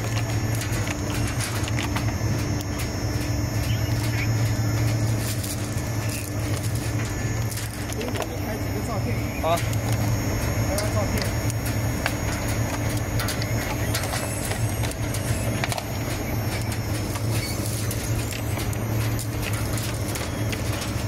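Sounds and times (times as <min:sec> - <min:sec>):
machine drone with low hum: 0:00.0 - 0:21.0.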